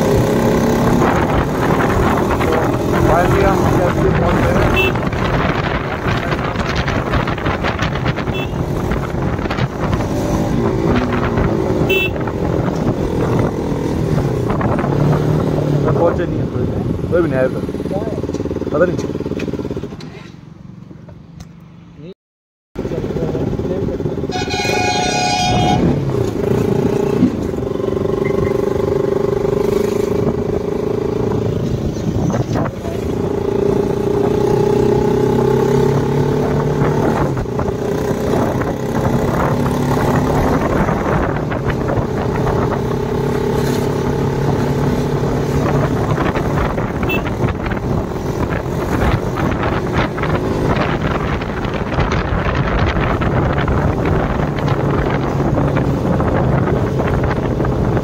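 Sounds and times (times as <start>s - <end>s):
motorcycle engine running: 0.0s - 15.0s, 22.8s - 58.0s.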